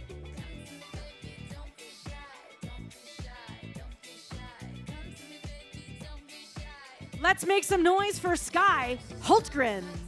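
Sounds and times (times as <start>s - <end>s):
upbeat funk dance music: 0.0s - 10.0s.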